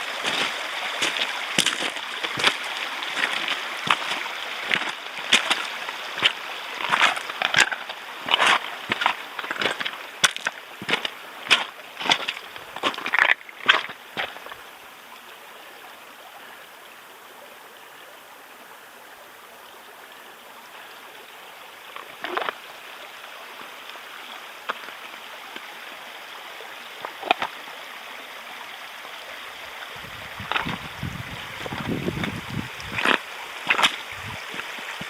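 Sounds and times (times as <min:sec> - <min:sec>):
stream water running: 0:00.0 - 0:35.0.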